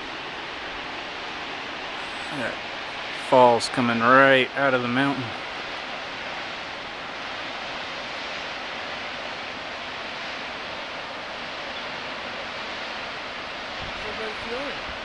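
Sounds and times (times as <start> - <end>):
waterfall gushing: 0.0 - 15.0.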